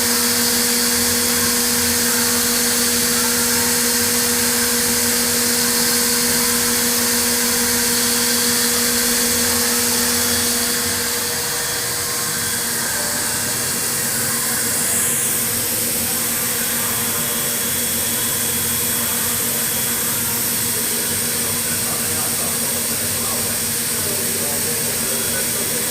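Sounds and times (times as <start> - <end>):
low machine hum: 0.0 - 25.9
milling machine hissing: 0.0 - 25.9.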